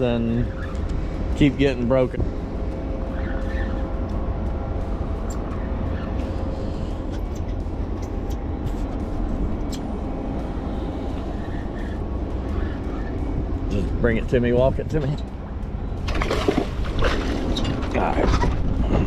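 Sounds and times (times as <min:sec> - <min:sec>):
wind and boat engine rumble: 0:00.0 - 0:19.0.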